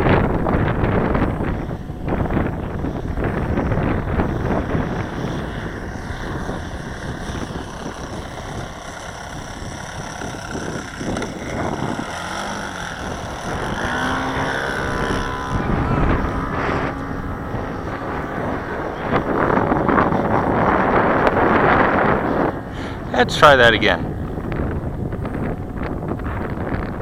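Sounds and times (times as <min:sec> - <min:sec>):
model plane engine: 0:00.0 - 0:27.0
wind buffeting microphone: 0:00.0 - 0:27.0.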